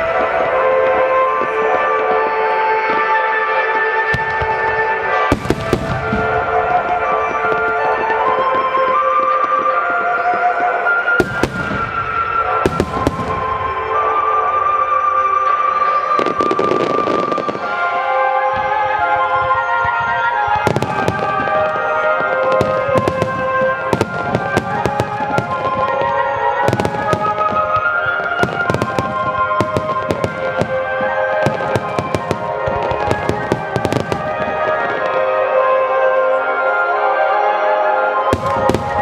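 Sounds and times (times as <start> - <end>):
fireworks bursting and crackling: 0.0 - 39.0
sustained music: 0.0 - 39.0.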